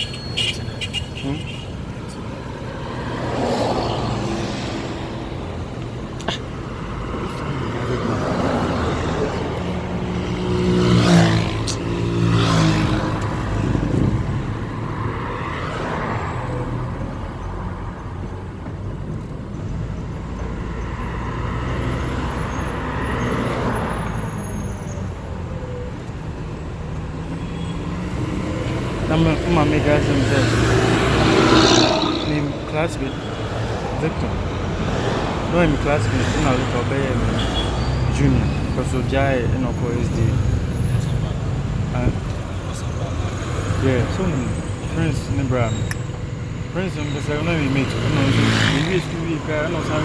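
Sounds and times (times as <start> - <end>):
vehicles driving past: 0.0 - 50.0.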